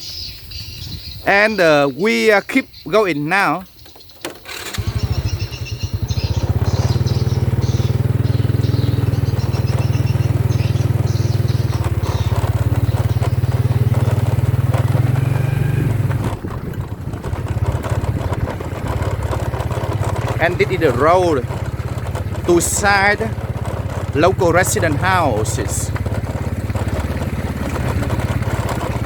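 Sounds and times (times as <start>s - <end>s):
motorcycle engine under throttle: 3.7s - 29.0s.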